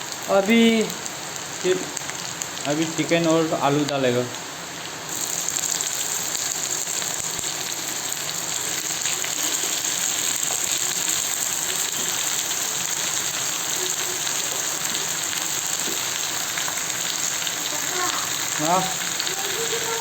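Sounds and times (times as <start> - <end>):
food frying with sizzle: 0.0 - 20.0.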